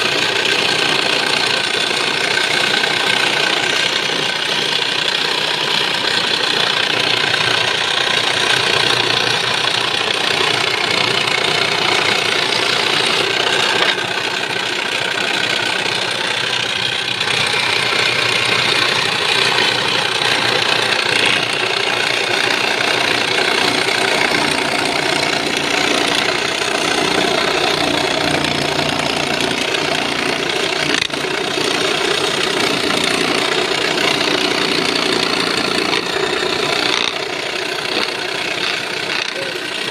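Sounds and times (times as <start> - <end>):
electric saw cutting wood: 0.0 - 39.9.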